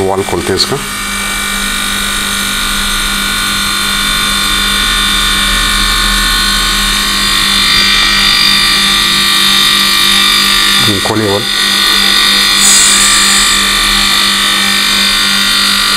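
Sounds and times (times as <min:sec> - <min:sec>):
compressor motor whining: 0:00.0 - 0:15.9.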